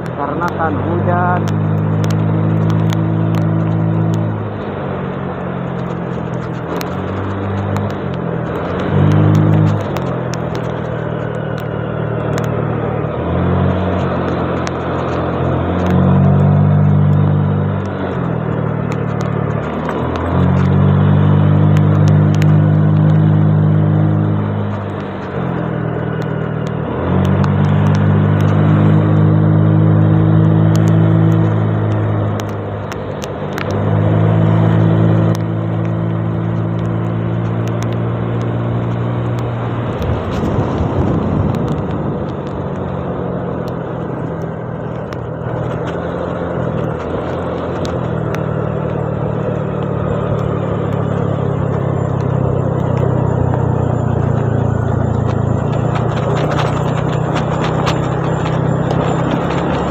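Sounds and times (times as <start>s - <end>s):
scooter engine running: 0.0s - 59.9s
wind and road noise: 0.0s - 59.9s.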